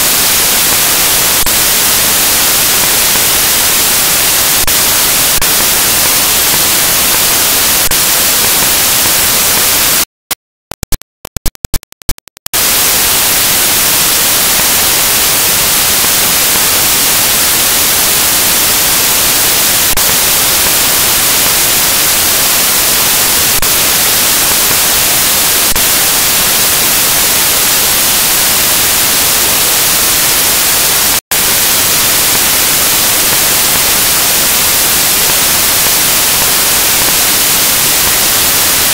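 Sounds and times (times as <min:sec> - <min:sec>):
white-noise static hiss: 0:00.0 - 0:10.0, 0:12.6 - 0:38.9.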